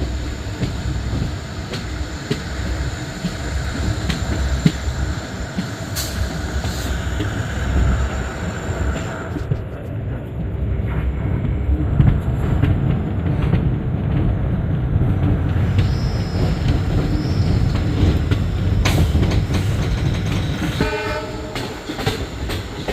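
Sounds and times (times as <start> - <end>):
clickety-clack of rail joints: 0.0 - 22.9
train wheels rumbling on track: 0.0 - 22.9.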